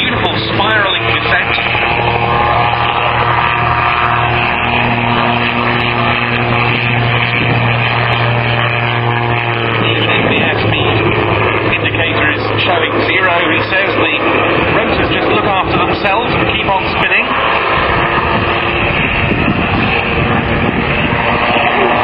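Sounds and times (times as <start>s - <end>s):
autogyro engine droning: 0.0s - 22.0s.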